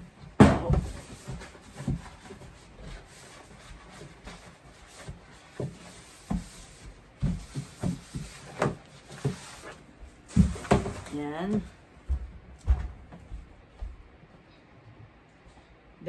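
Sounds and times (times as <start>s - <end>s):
plastic bin knocking and rubbing: 0.0s - 13.3s.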